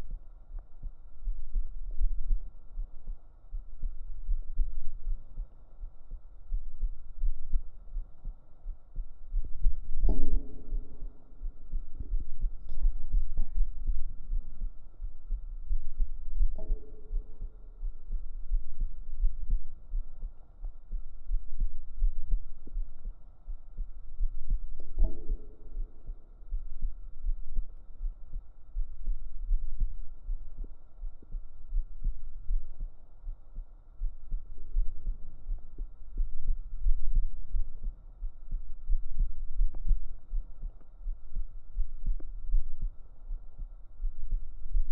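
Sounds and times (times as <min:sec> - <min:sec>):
deep heartbeat thumps: 0:00.0 - 0:44.9.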